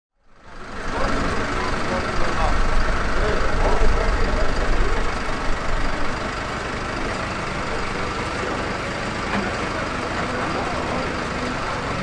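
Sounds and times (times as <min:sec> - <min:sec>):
engine idling rumble: 0:00.3 - 0:12.0.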